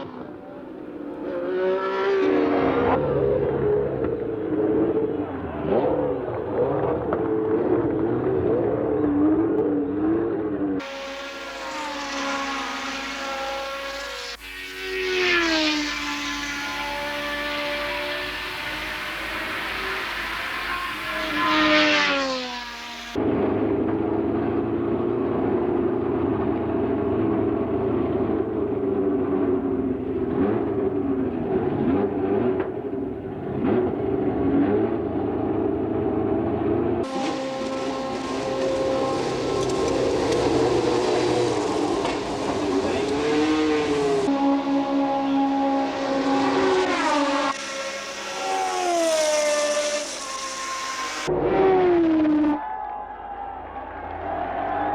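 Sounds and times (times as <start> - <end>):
racing car passing by: 0.0 - 25.5, 26.3 - 52.8
racing car engine: 0.0 - 54.9.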